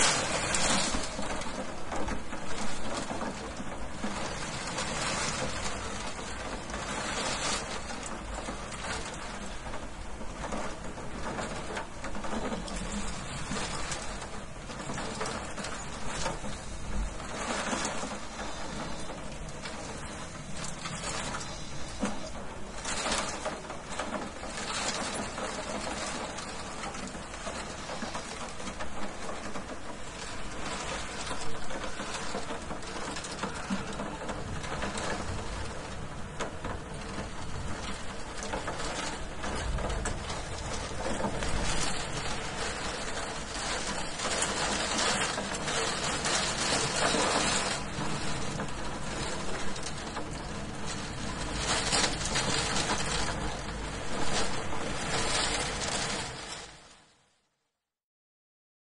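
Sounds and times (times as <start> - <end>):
hail pattering on window glass: 0.0 - 57.5.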